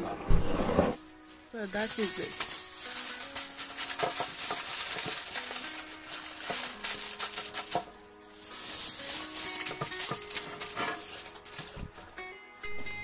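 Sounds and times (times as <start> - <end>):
foil crinkling: 1.0 - 12.2.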